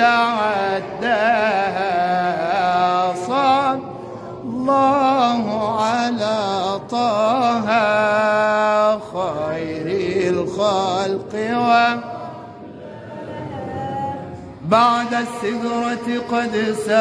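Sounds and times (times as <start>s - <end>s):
man singing devotional chant: 0.0s - 12.6s, 13.4s - 17.0s.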